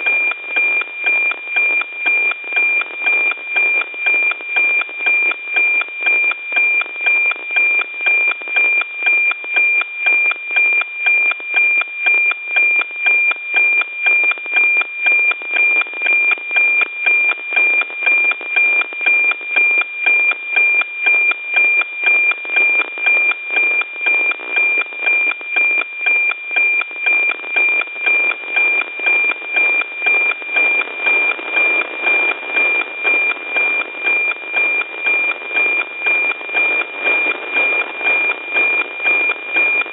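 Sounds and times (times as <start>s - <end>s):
steady high tone with ticks: 0.0s - 39.9s.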